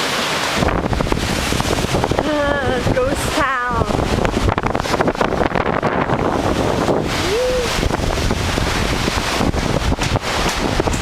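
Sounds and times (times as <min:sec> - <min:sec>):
strong wind buffeting microphone: 0:00.5 - 0:11.0.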